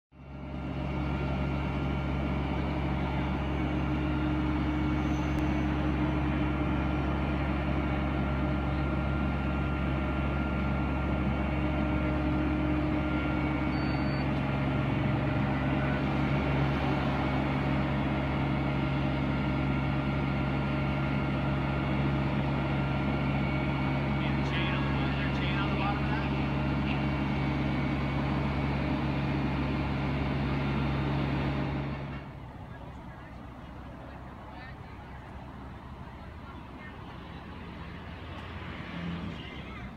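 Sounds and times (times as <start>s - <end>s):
diesel engine running: 0.1s - 39.9s.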